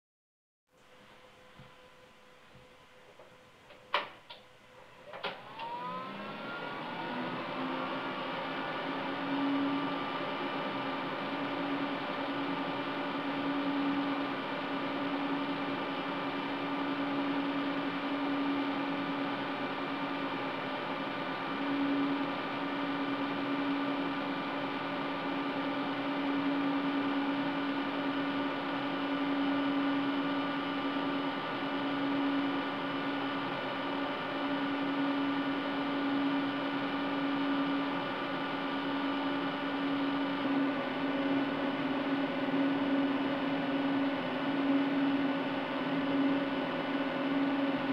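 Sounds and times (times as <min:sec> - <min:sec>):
cooling fans whirring: 0:00.7 - 0:47.9.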